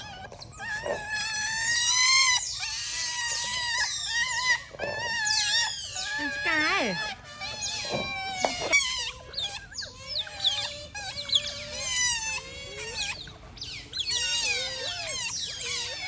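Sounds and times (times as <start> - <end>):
otter chirping and squeaking: 0.0 - 16.0.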